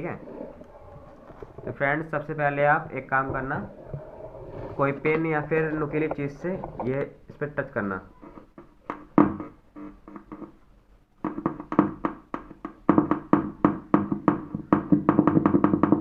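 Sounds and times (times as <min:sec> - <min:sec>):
woofer humming and crackling: 0:00.0 - 0:16.0.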